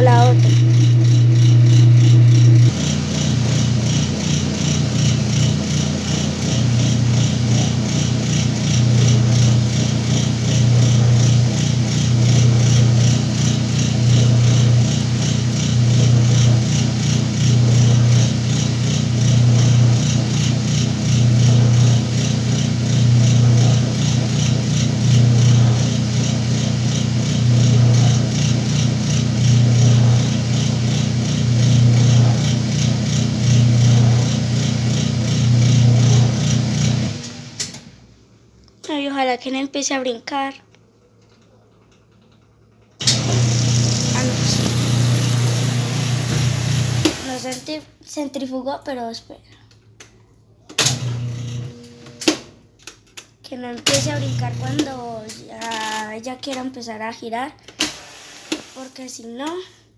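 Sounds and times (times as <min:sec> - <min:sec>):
washing machine motor humming: 0:00.0 - 0:38.1, 0:43.0 - 0:47.8, 0:50.8 - 0:52.6, 0:53.8 - 0:56.4, 0:57.7 - 0:58.9.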